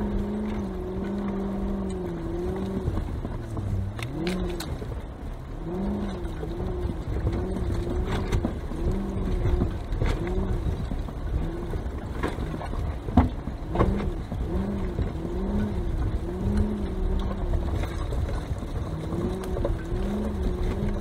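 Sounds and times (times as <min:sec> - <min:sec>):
car engine at low speed: 0:00.0 - 0:21.0.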